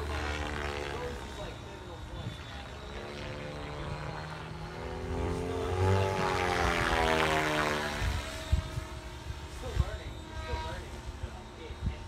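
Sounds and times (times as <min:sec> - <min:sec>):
rc helicopter rotor whine: 0:00.0 - 0:12.0.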